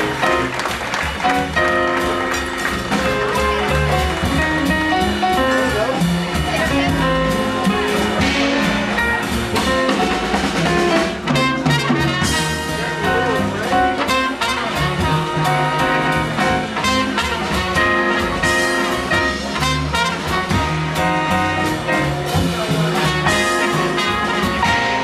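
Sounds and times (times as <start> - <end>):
acoustic bass: 0.0 - 25.0
drum kit with cymbals: 0.0 - 25.0
horn lines: 0.0 - 25.0
piano: 0.0 - 25.0.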